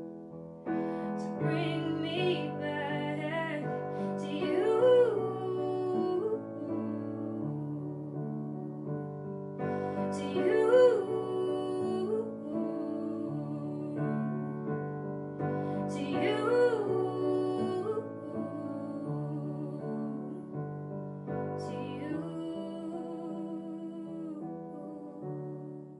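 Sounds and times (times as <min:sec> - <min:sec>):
piano playing slow chords: 0:00.0 - 0:25.9
woman singing: 0:00.8 - 0:09.0, 0:09.7 - 0:14.5, 0:15.5 - 0:20.6, 0:21.4 - 0:25.8.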